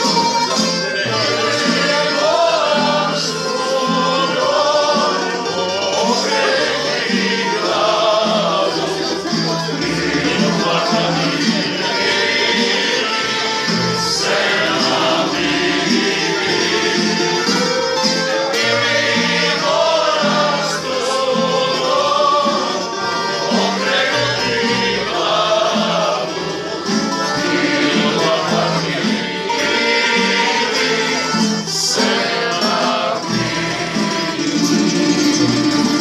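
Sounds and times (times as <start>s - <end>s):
group singing folk song: 0.0s - 36.0s
tambura strumming: 0.0s - 36.0s.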